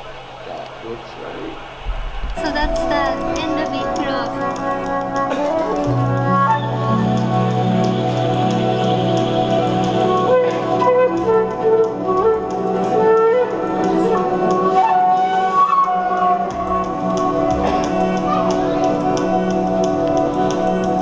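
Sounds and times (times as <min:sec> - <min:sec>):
sustained drone: 0:00.0 - 0:21.0
flute melody: 0:02.4 - 0:21.0.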